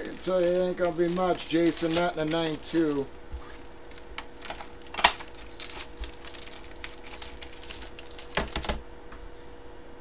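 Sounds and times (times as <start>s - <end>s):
packaging rustling and crinkling: 0.0s - 8.9s.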